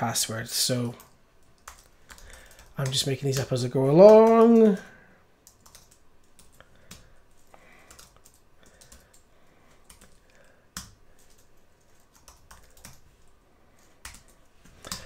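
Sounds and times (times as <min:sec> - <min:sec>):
typing on computer keyboard: 0:01.0 - 0:13.0, 0:13.8 - 0:15.0.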